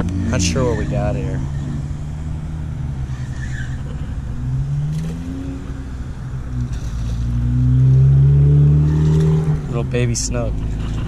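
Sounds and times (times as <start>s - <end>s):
car engine passing: 0.0s - 11.0s.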